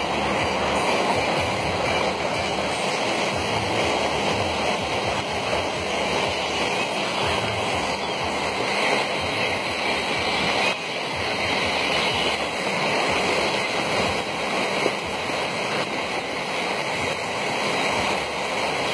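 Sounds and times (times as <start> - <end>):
floodwater rushing across road: 0.0 - 18.9.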